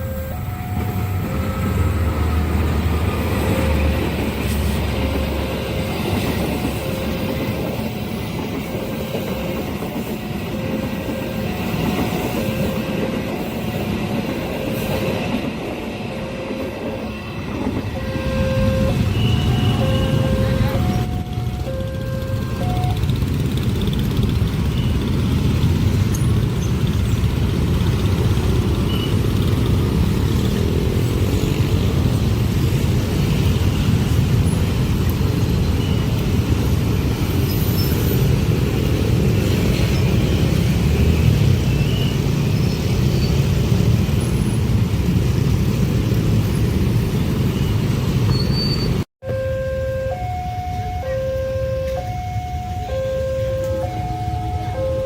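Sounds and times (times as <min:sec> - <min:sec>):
train wheels rumbling on rails: 0:00.0 - 0:49.1.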